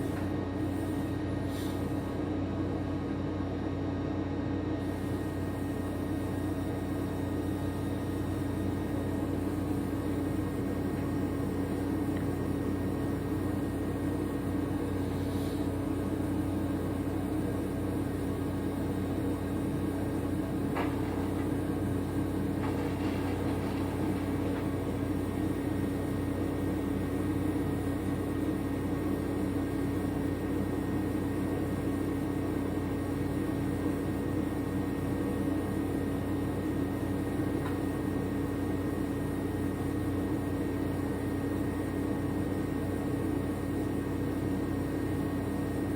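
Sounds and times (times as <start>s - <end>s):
mechanical hum: 0.0s - 45.9s.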